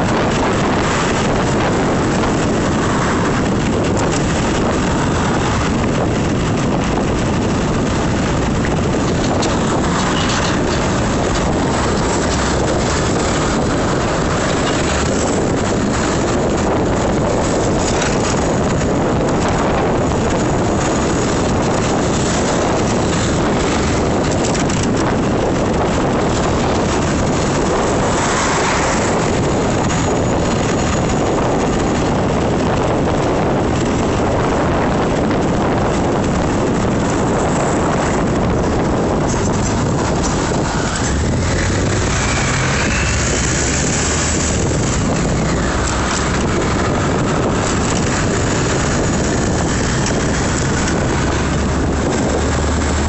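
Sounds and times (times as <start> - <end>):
passing road traffic: 0.0 - 53.0
truck engine hum: 0.0 - 53.0
wind rushing over microphone: 0.0 - 53.0.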